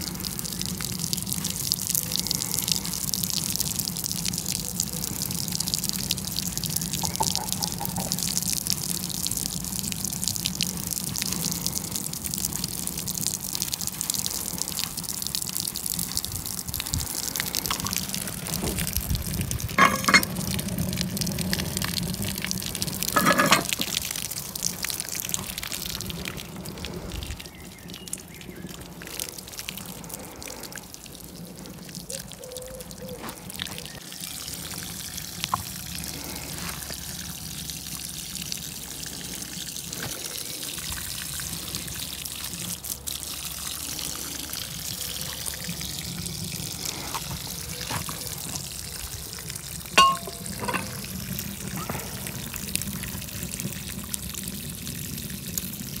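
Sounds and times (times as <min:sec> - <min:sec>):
water splashing onto ground: 0:00.0 - 0:56.0.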